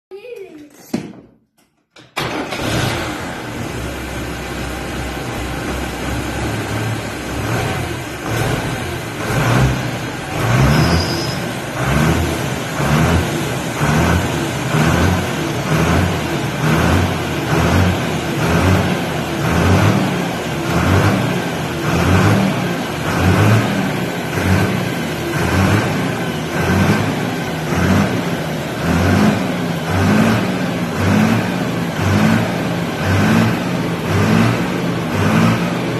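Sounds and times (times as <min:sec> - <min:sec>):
tractor diesel engine revving: 0:02.2 - 0:35.9.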